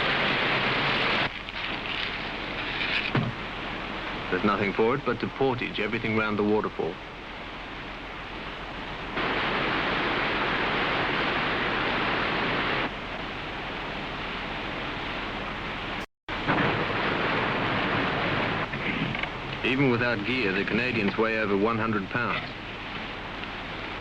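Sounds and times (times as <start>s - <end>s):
low steady hum: 0.0s - 24.0s
rushing white water: 0.0s - 24.0s.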